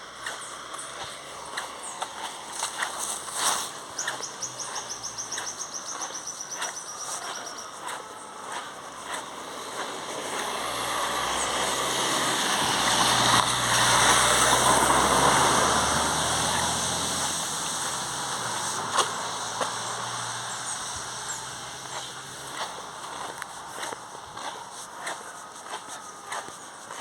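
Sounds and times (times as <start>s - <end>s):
vehicle passing by: 0.0s - 27.0s.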